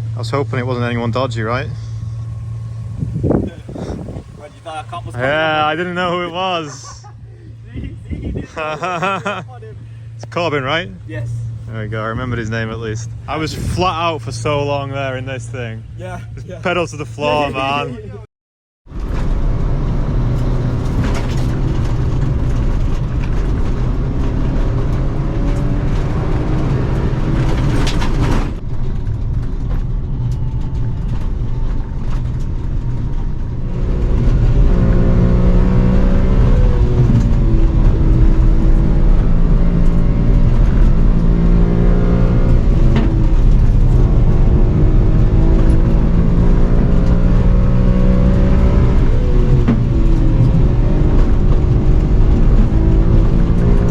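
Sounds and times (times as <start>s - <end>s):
car engine accelerating: 0.0s - 18.2s, 18.9s - 53.9s.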